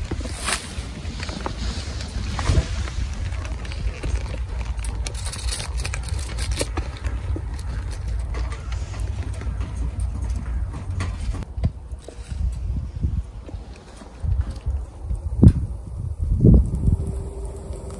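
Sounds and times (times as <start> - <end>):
stove fire crackling: 0.0 - 17.9
wind on microphone: 0.0 - 17.9.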